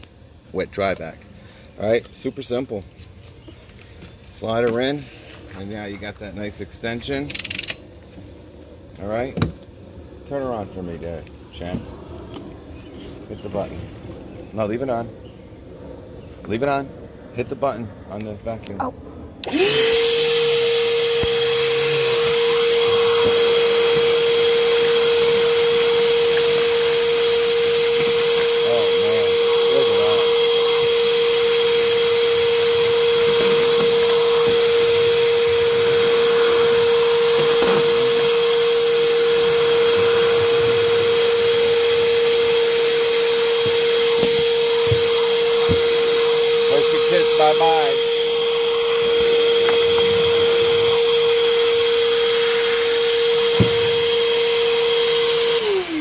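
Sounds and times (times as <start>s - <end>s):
shop vacuum whine: 0.0s - 56.0s.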